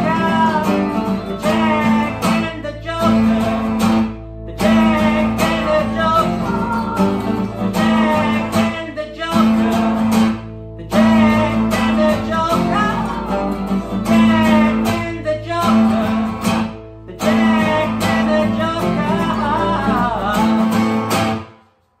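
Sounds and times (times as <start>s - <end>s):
man singing: 0.0s - 21.4s
acoustic guitars strumming: 0.0s - 22.0s.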